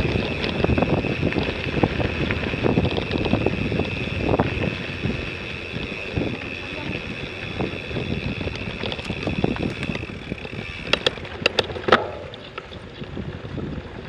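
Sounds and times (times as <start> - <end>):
mountain bike rattling over dirt: 0.0 - 14.0.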